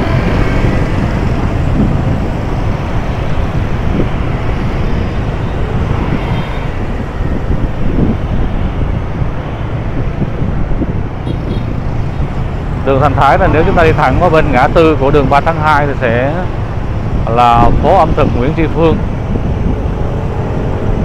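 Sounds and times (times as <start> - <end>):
road traffic: 0.0 - 21.0
wind rumbling on microphone: 0.0 - 21.0.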